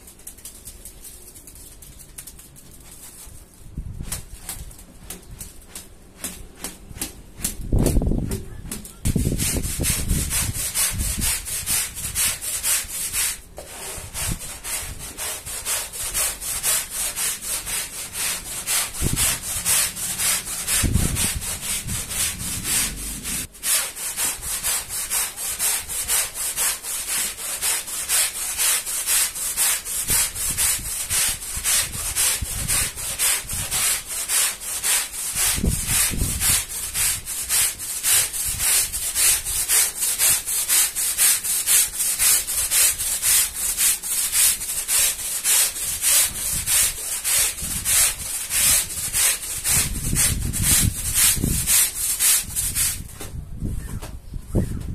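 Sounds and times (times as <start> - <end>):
brush scrubbing wet rug: 5.2 - 8.0, 9.1 - 53.1.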